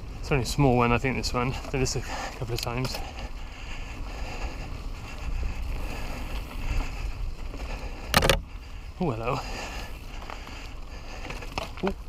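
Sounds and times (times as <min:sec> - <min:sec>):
bike tyre and trail noise: 0:00.0 - 0:12.0
wind rumble on microphone: 0:00.0 - 0:12.0.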